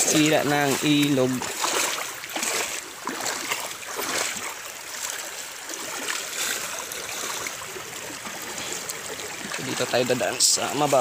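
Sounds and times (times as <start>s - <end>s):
light water splashes: 0.0s - 11.0s
river water trickling over rocks: 0.0s - 11.0s.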